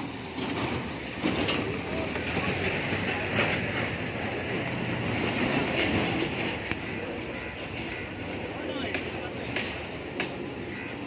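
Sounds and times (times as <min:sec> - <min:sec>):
vehicle noise rumble: 0:00.0 - 0:11.0.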